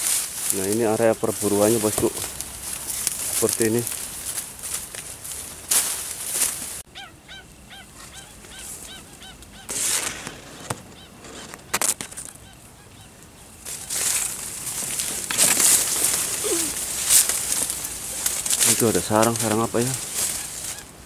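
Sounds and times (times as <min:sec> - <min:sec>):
bird calling: 0:00.0 - 0:21.0
reed stems rustling: 0:00.0 - 0:21.0.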